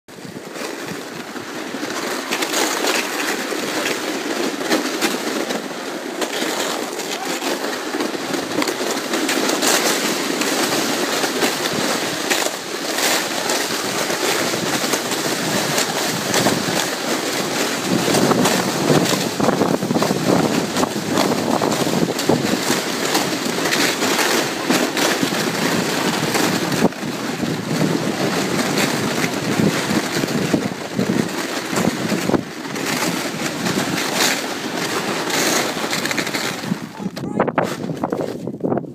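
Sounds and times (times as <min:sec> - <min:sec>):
sled scraping over snow: 0:00.1 - 0:38.9.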